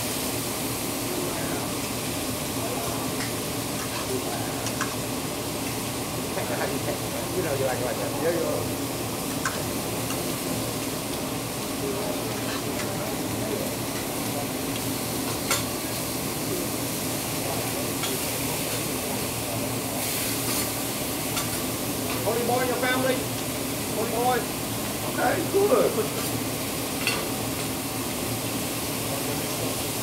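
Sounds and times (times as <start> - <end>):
food sizzling on griddle: 0.0 - 30.0.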